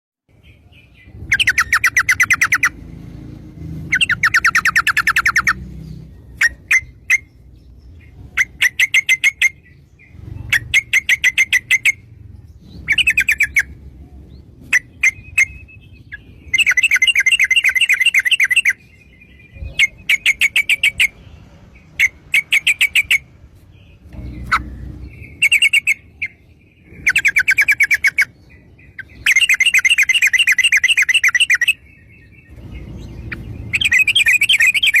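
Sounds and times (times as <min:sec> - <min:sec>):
bird singing rapid note bursts: 0:00.9 - 0:35.0.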